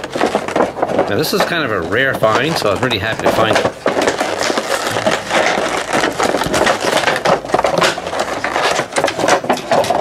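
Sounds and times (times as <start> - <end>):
plastic packaging crackling: 0.0 - 10.0.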